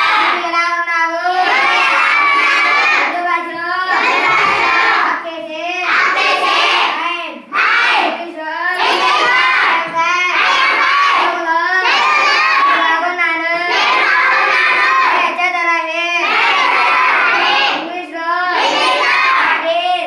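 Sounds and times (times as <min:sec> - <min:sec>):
children chanting in unison: 0:00.0 - 0:20.0.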